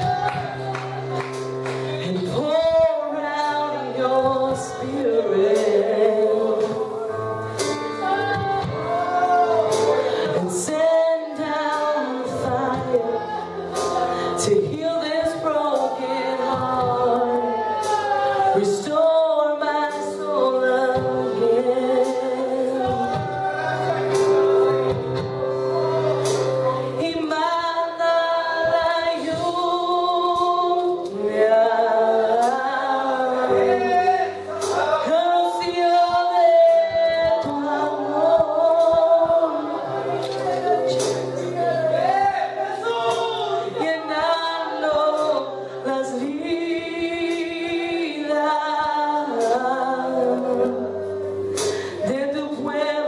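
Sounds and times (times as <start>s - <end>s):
congregation singing worship song: 0.0s - 53.0s.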